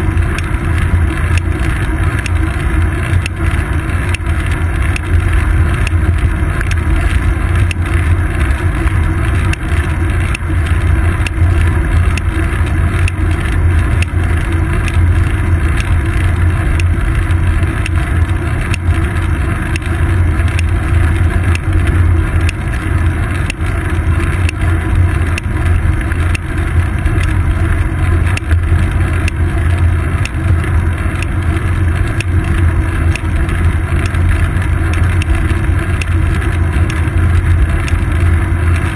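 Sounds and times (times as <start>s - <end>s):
small clicks and knocks: 0.1s - 38.9s.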